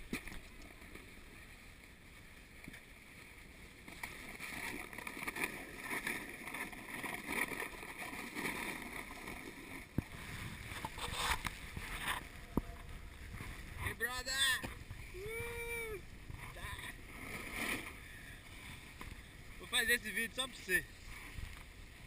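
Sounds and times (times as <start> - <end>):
snowboard scraping over snow: 3.5 - 22.0.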